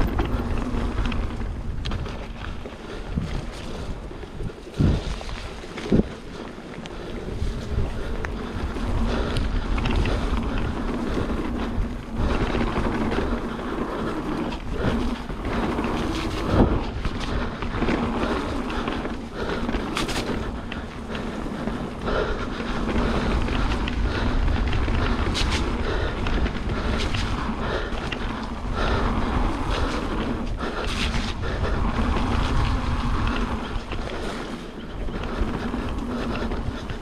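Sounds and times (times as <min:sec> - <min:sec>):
bike clicks and rattles: 0:00.0 - 0:37.0
rumble of bike ride: 0:00.0 - 0:37.0
wind rushing over microphone: 0:00.0 - 0:37.0.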